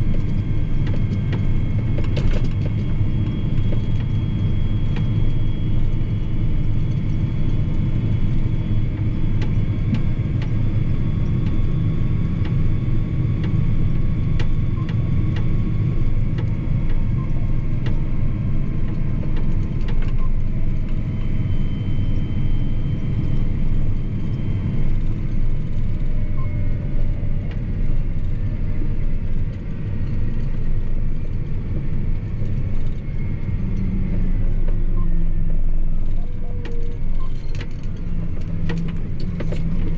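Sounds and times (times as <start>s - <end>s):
tractor engine rumbling: 0.0s - 39.9s.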